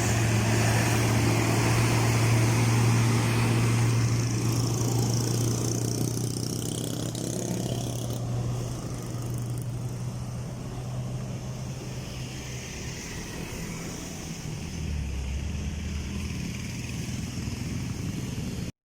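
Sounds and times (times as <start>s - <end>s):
heavy vehicle engine hum: 0.0s - 18.7s.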